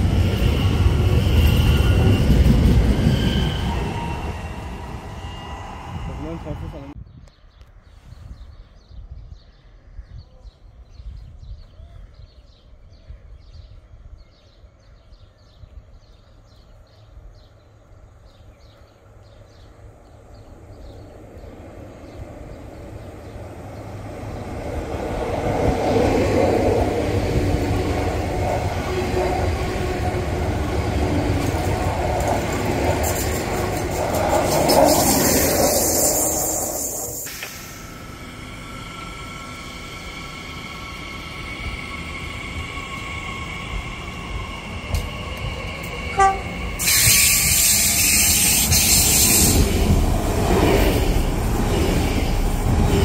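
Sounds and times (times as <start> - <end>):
train passing: 0.0 - 7.0, 16.3 - 53.0.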